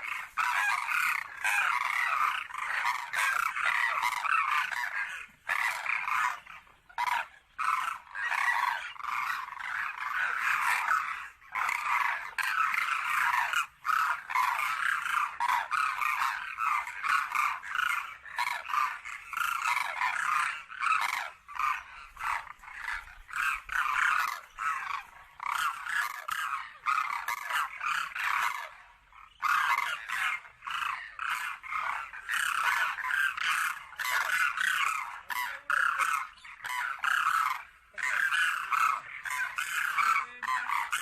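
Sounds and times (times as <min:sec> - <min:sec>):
flock of cranes calling: 0:00.0 - 0:41.0.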